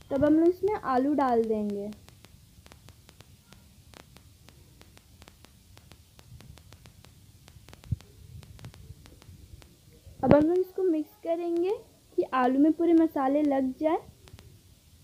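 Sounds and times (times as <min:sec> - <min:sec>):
hot oil crackling in pan: 0:00.0 - 0:15.0.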